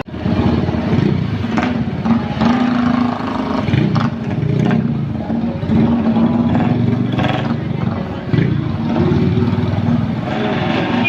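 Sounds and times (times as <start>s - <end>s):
bus engine humming: 0.0s - 11.0s
traffic noise: 0.0s - 11.0s.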